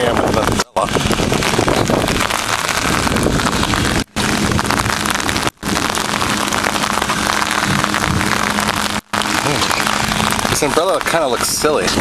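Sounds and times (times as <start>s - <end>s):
heavy rain on an umbrella: 0.0s - 12.0s.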